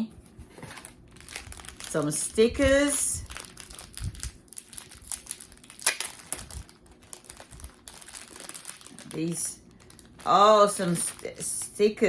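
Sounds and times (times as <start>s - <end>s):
packaging crinkling: 0.6s - 11.8s.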